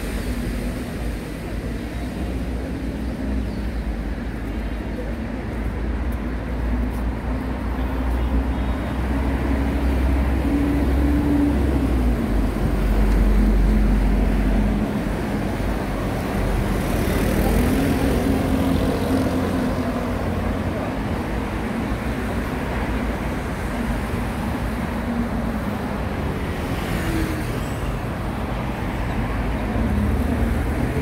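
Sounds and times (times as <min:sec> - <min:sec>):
vehicles driving past: 0:00.0 - 0:31.0.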